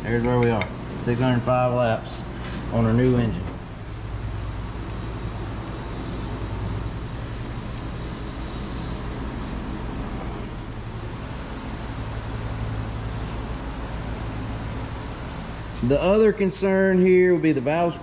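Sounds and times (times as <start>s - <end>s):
low mechanical hum with flutter: 0.0s - 18.0s.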